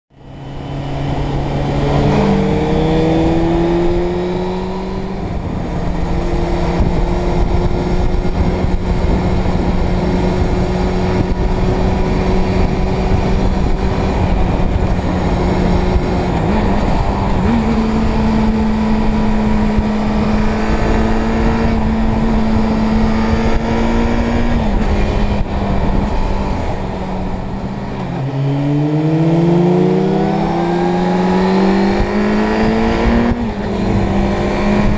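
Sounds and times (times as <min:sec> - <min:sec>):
motorcycle engine running: 0:00.2 - 0:34.9
wind rush: 0:00.2 - 0:34.9.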